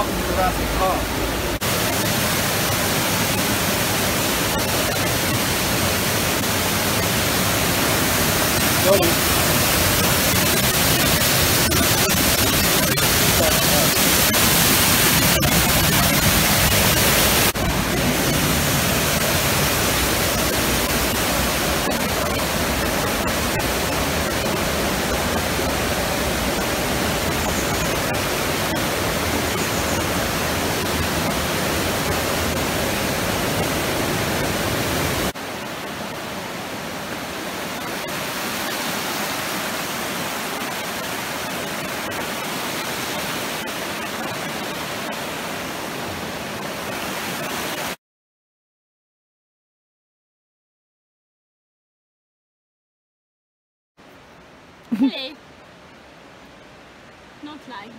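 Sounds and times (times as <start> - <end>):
steady rushing noise: 0.0 - 48.0.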